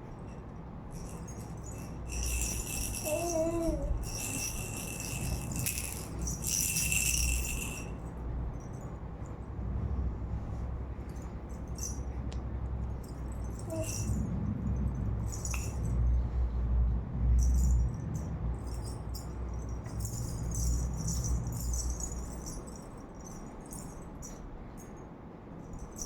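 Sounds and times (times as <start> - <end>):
jingling rattle shaken: 0.0 - 9.5, 10.4 - 16.5, 17.2 - 25.0, 25.6 - 26.0.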